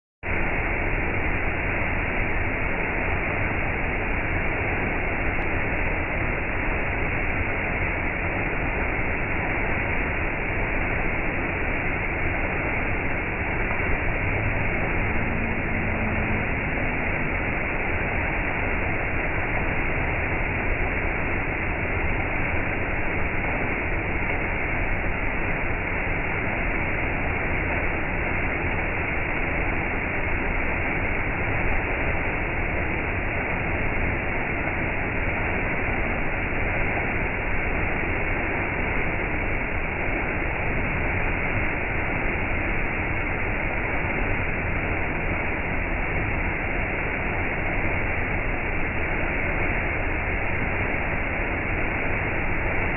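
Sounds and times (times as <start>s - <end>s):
waterfall rushing onto stones: 0.3s - 52.9s.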